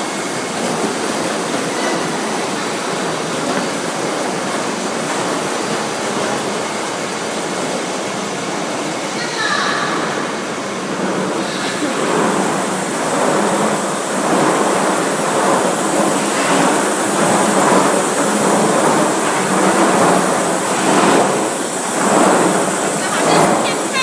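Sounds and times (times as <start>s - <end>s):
loud mechanical din of machinery: 0.0s - 24.0s.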